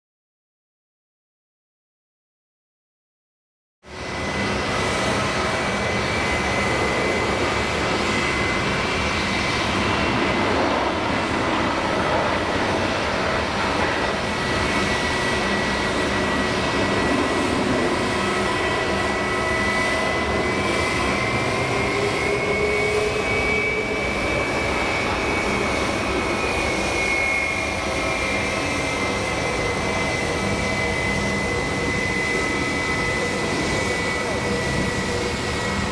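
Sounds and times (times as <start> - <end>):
jet engines rumbling and whining: 3.8 - 35.9.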